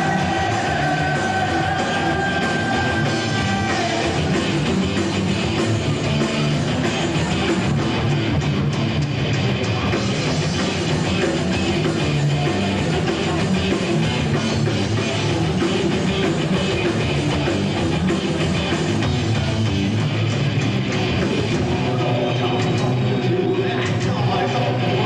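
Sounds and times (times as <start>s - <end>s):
heavy metal music: 0.0s - 25.0s.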